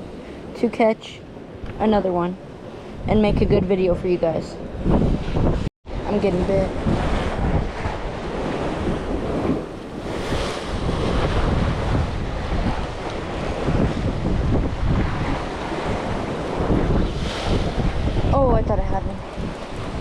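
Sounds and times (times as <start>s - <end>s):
sea waves: 0.0s - 20.0s
wind buffeting microphone: 0.0s - 20.0s.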